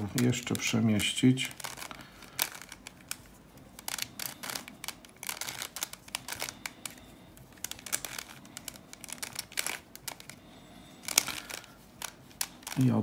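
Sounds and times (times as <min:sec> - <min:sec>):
plastic puzzle cube clicking: 0:00.0 - 0:13.0.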